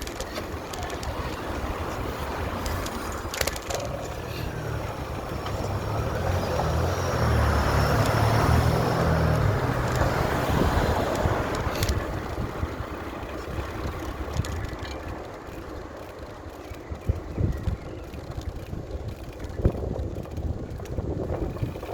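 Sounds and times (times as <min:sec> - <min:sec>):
traffic rushing: 0:00.0 - 0:21.9.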